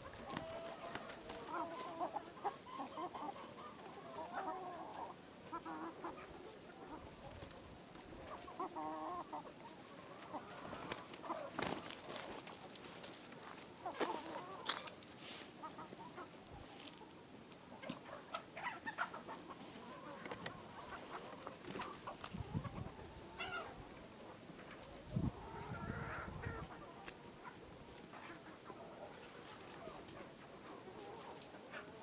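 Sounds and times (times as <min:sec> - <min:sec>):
hens clucking: 0:00.0 - 0:32.0.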